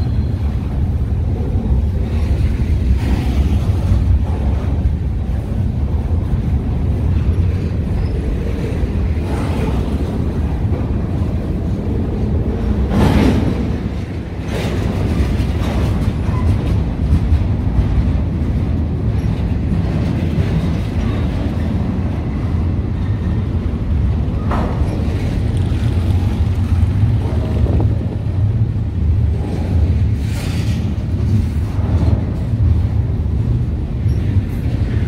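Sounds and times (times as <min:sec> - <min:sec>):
sharp clacks of train wheels: 0:00.0 - 0:35.0
train rumbling past: 0:00.0 - 0:35.0.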